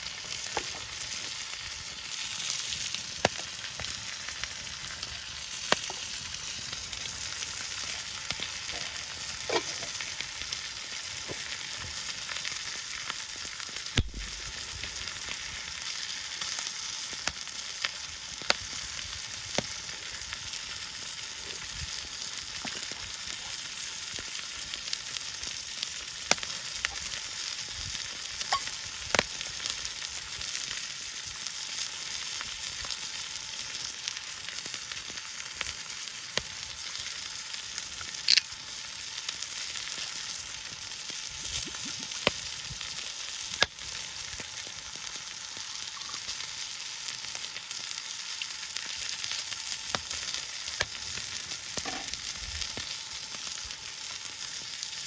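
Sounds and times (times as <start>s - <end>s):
food sizzling: 0.0s - 55.0s
sharp pops of frying: 0.0s - 55.0s.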